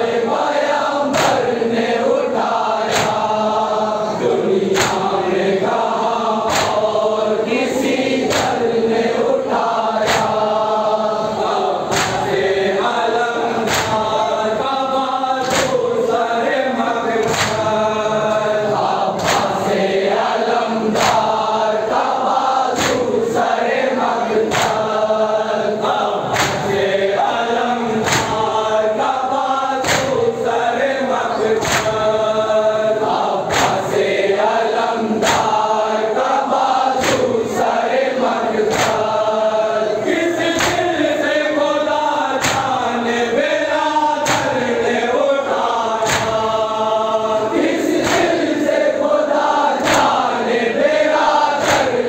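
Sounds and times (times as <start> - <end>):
men chanting in chorus: 0.0 - 52.0.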